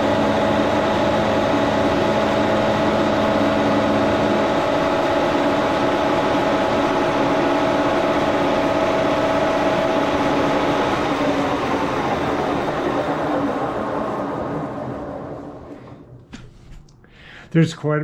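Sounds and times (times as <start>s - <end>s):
milling machine whining: 0.0s - 16.2s.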